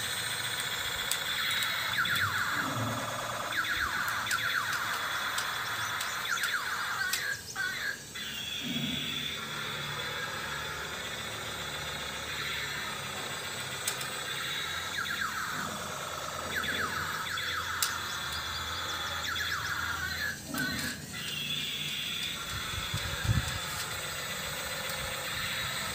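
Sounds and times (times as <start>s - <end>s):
toy motor whirring: 0.0s - 25.9s
toy whistle-like sound effects: 0.0s - 25.9s.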